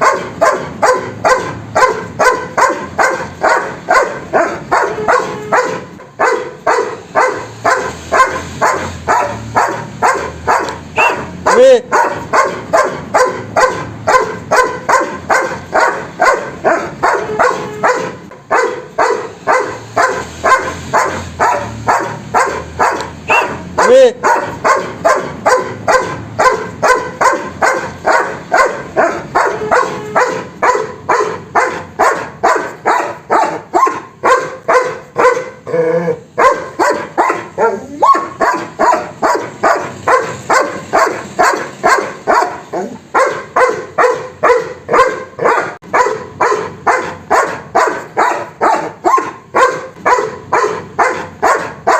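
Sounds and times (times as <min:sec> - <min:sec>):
dog barking: 0:00.0 - 0:51.9.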